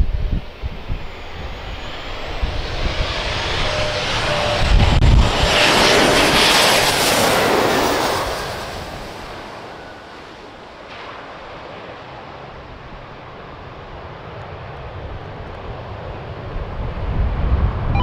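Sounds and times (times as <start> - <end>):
jet airliner landing: 0.0 - 18.0.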